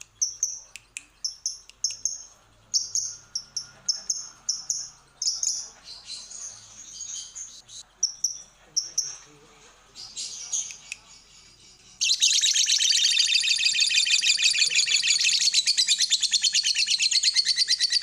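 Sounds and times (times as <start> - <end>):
bird chirping and chattering: 0.0 - 18.0.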